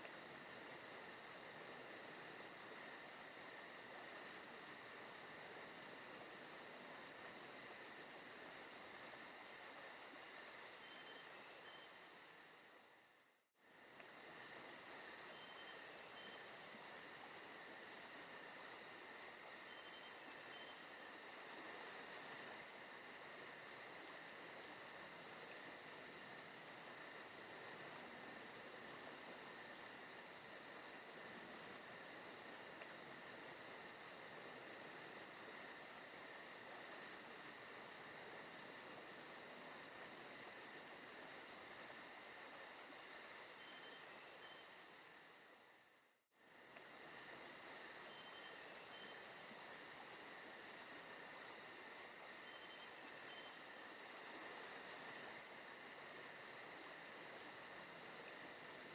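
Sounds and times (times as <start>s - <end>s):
constant hiss: 0.0s - 58.9s
crickets chirping: 0.0s - 58.9s.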